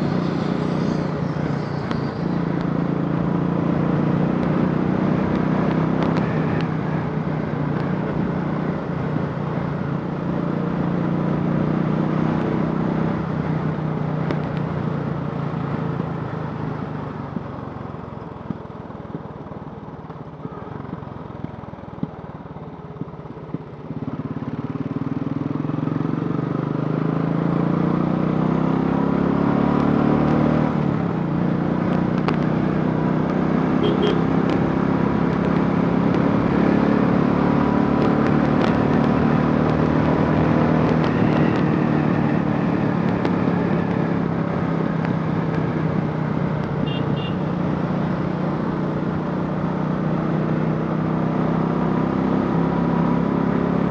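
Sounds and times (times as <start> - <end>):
motorcycle engine revving: 0.0 - 17.5, 23.0 - 53.9.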